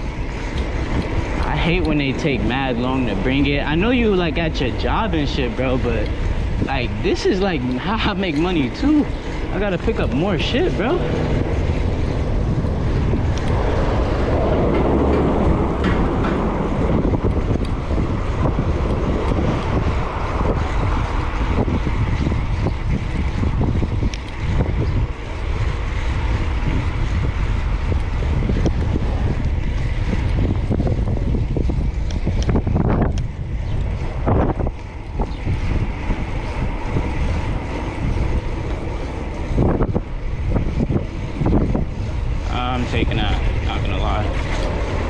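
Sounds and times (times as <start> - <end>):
passing vehicles: 0.0 - 45.0
wind rumbling on microphone: 0.0 - 45.0.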